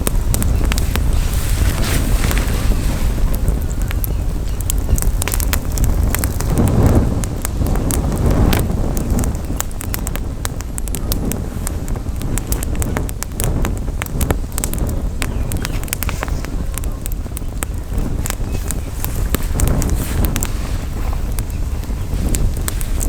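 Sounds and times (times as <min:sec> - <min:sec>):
campfire crackling and popping: 0:00.0 - 0:23.0
wind rumble on microphone: 0:00.0 - 0:23.0.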